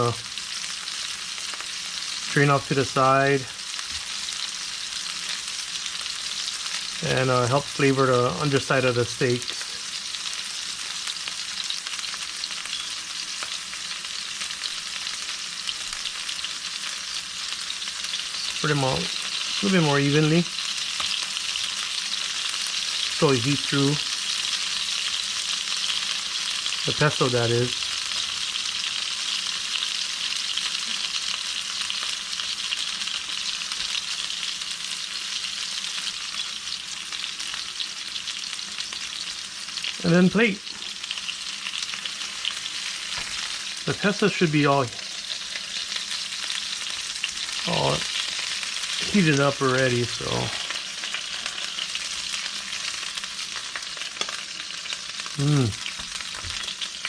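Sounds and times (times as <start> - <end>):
fish sizzling in a pan: 0.0 - 57.0.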